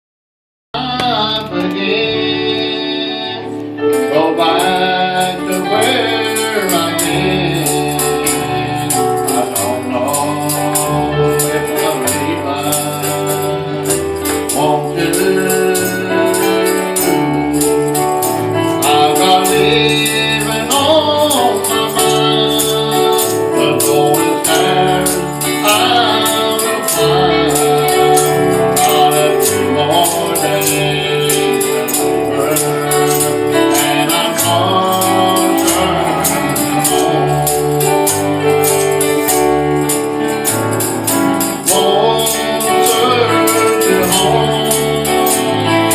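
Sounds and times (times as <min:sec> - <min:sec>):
gospel singing: 0:00.8 - 0:45.9
held chords: 0:00.8 - 0:45.9
tambourine: 0:03.9 - 0:45.9.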